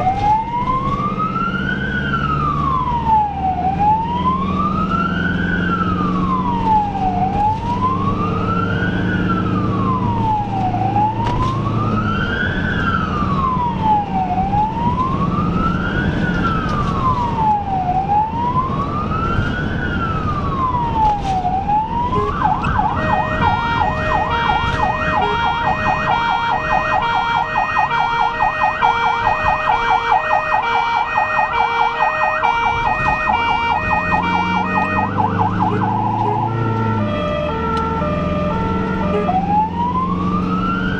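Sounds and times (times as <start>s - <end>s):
ambulance siren wailing and yelping: 0.0s - 40.9s
engine and road noise: 0.0s - 40.9s.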